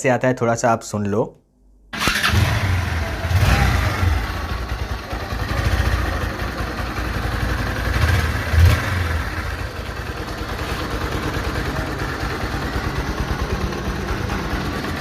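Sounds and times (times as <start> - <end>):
motorcycle engine idling: 2.0 - 15.0.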